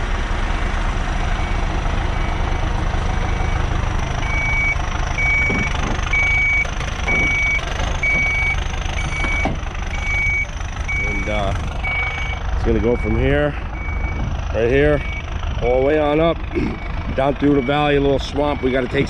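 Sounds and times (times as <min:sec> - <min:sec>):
heavy diesel machinery running: 0:00.0 - 0:19.0
reversing alarm beeping: 0:01.3 - 0:19.0.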